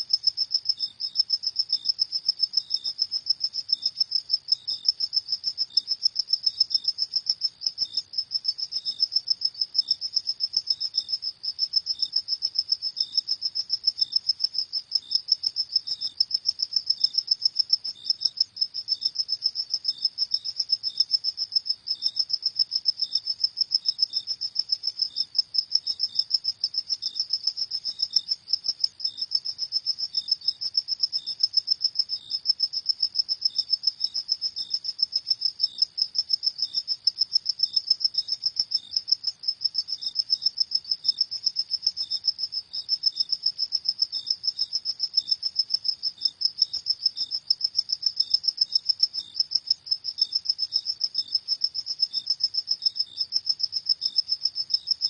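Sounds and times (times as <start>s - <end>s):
fainter lower cricket chirp: 0.0s - 55.0s.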